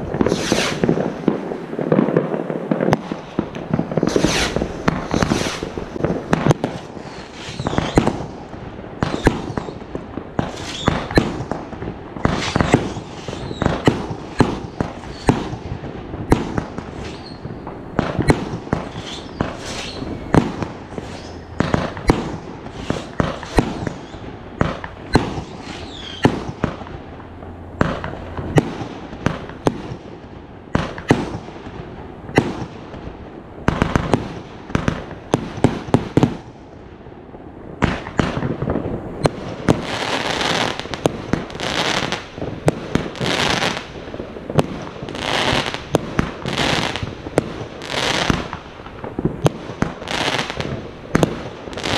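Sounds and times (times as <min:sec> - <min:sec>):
fireworks bangs: 0:00.0 - 0:51.9
fireworks crackling: 0:00.0 - 0:51.9.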